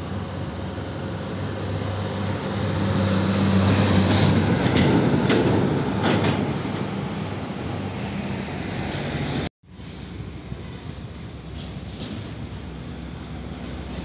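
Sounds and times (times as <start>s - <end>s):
truck passing by: 0.0s - 14.0s.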